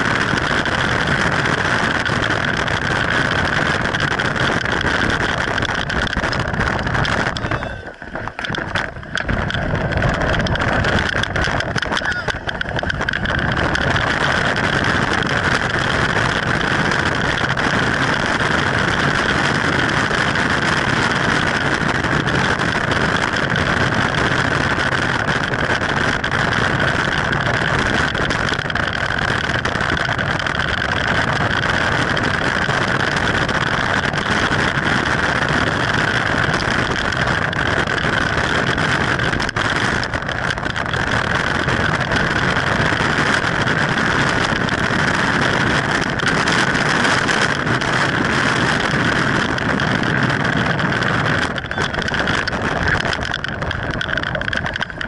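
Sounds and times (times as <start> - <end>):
plastic wheels rolling on asphalt: 0.0 - 55.0.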